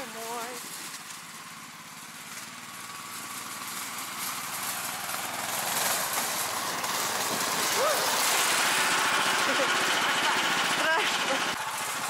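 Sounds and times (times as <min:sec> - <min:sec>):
tracked motor engine under load: 0:00.0 - 0:12.0.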